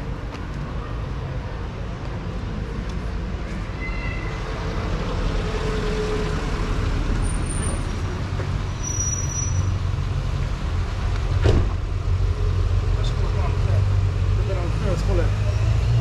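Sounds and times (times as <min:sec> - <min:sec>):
motor vehicle low rumble: 0:00.0 - 0:16.0.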